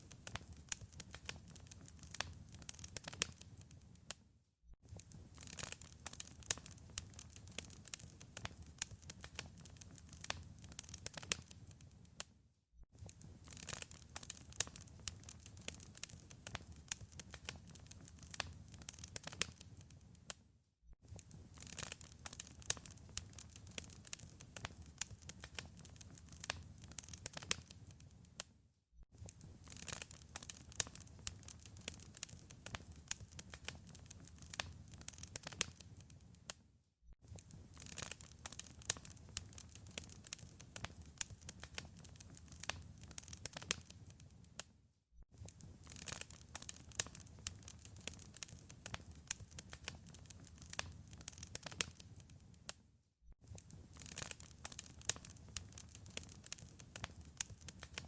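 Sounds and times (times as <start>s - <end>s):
wood fire crackling: 0.0s - 3.8s, 4.9s - 12.2s, 13.0s - 20.3s, 21.1s - 28.5s, 29.2s - 36.5s, 37.3s - 44.7s, 45.4s - 52.8s, 53.4s - 58.0s.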